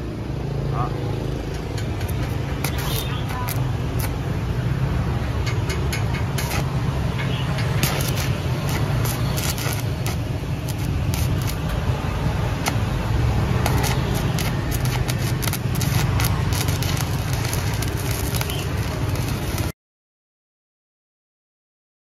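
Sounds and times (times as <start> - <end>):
welding arc crackling sizzle: 1.3 - 19.8.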